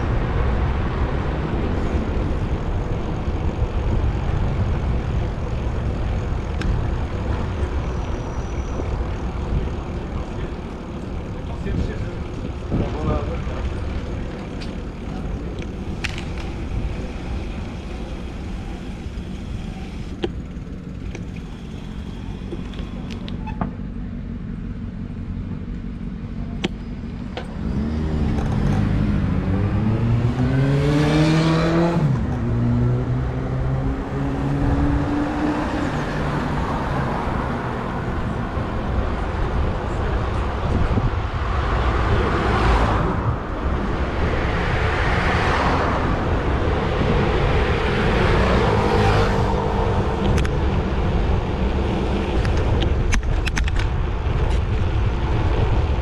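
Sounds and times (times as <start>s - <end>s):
city traffic rumble: 0.0s - 56.0s
vehicle engine accelerating: 0.0s - 56.0s
vehicles passing: 0.0s - 56.0s.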